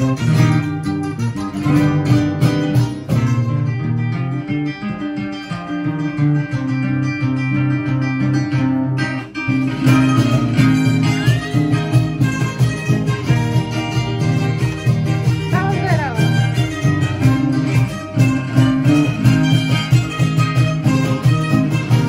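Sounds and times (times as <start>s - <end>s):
cajon beat: 0.0s - 22.0s
mandolins playing a tune: 0.0s - 22.0s
strummed acoustic guitar: 0.0s - 22.0s.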